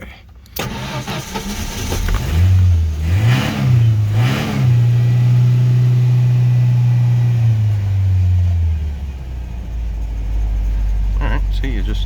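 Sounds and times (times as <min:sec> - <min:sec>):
car engine revving and idling: 0:00.6 - 0:12.0.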